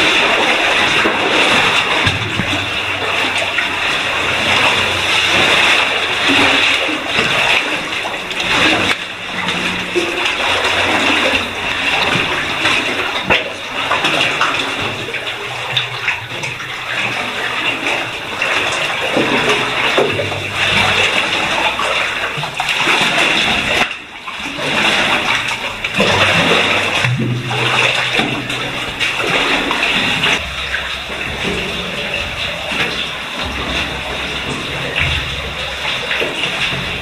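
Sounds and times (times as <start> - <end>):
stream water rushing and splashing: 0.0 - 37.0.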